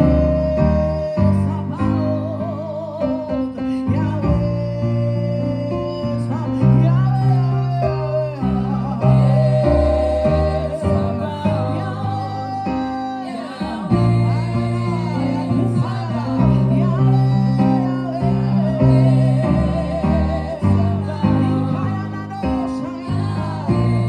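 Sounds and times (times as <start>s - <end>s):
bass guitar low notes: 0.0s - 2.9s, 3.7s - 12.6s, 13.8s - 24.0s
gospel singing with band: 0.0s - 24.0s.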